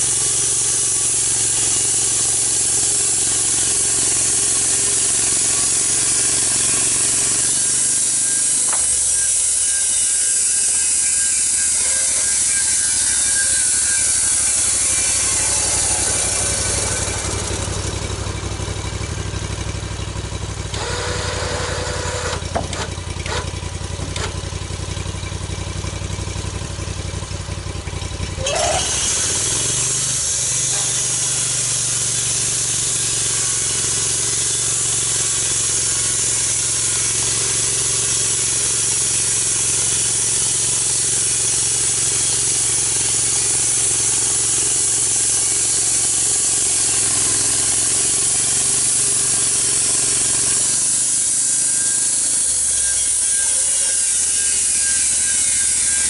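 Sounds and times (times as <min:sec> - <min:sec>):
saw hissing through log: 0:00.0 - 0:19.8, 0:20.6 - 0:22.8, 0:28.4 - 0:56.0
sawmill engine running: 0:00.0 - 0:56.0.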